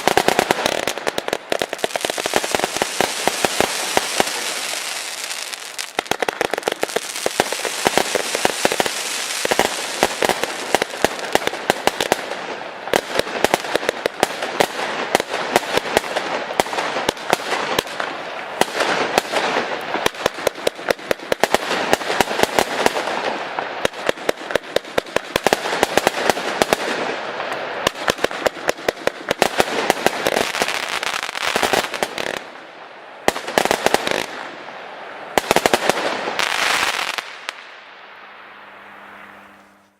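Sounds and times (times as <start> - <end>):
firework bangs: 0.0 - 34.7, 35.3 - 37.9
firework crackle: 0.0 - 39.9.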